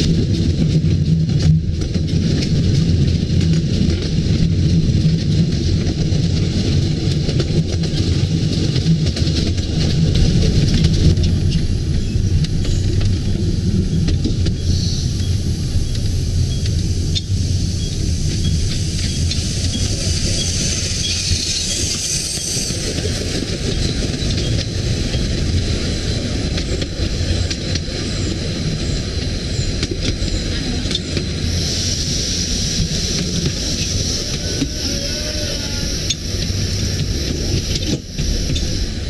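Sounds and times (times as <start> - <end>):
train rumbling and rattling: 0.0 - 39.0.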